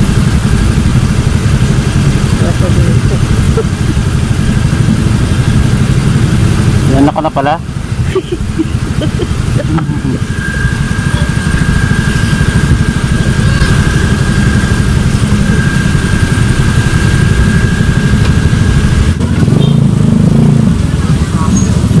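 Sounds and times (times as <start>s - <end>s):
motorcycle engine rumbling: 0.0s - 22.0s
thin high whine: 0.0s - 22.0s.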